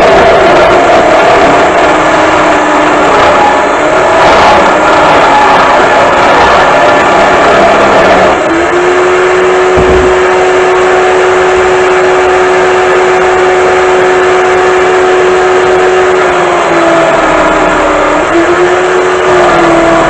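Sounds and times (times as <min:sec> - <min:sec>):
electric drill motor whine: 0:00.0 - 0:20.0
rough noise of spinning work: 0:00.0 - 0:20.0.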